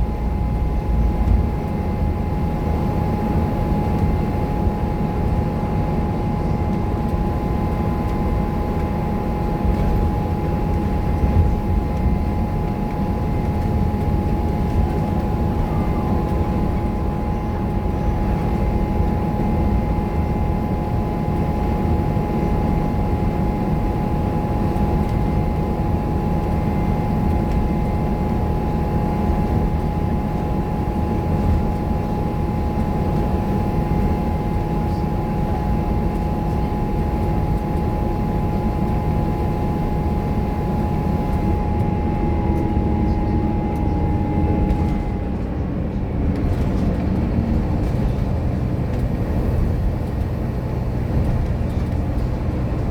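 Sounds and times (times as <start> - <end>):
steady high whine: 0.0 - 46.9
bus engine rumble: 0.0 - 52.9.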